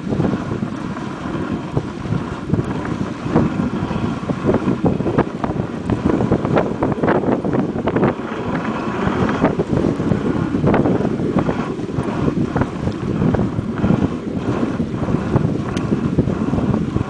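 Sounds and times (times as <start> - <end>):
sled runners scraping on snow: 0.0 - 17.0
wind buffeting microphone: 0.0 - 17.0.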